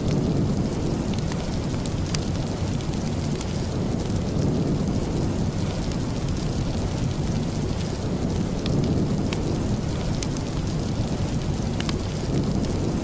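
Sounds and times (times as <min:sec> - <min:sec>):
rushing rain: 0:00.0 - 0:13.0
wood fire crackling: 0:00.0 - 0:13.0.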